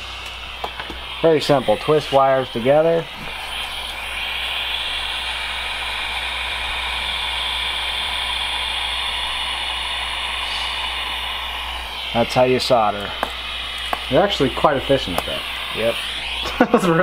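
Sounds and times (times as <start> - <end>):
butane soldering iron hissing: 0.0 - 17.0.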